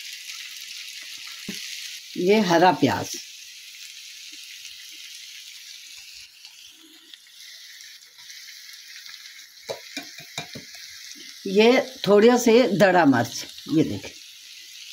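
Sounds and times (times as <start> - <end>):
frying pan sizzling: 0.0 - 14.9.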